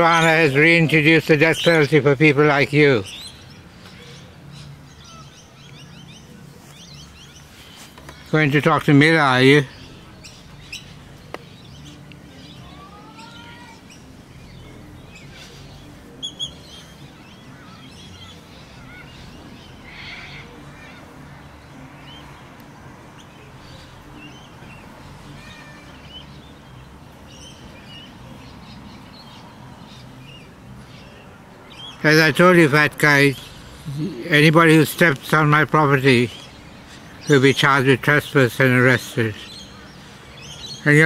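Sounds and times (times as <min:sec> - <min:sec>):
birds chirping and whistling: 0:00.0 - 0:22.5, 0:23.2 - 0:41.0.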